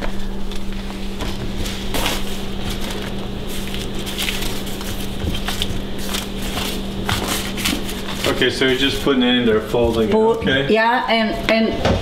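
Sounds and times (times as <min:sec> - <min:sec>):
steady low hum: 0:00.0 - 0:12.0
filo dough rustling: 0:00.2 - 0:10.6.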